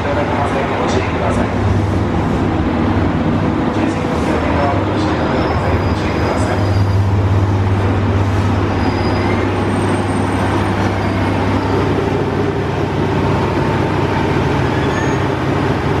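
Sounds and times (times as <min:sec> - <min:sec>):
diesel railcar rumbling: 0:00.0 - 0:16.0.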